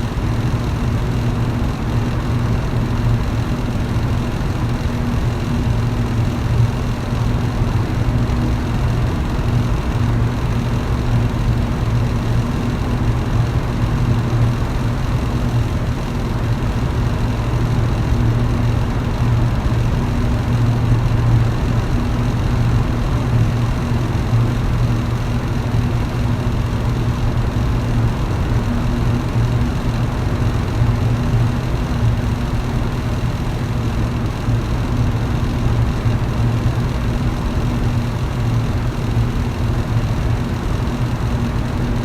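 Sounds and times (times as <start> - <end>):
electric fan motor hum: 0.0 - 42.0.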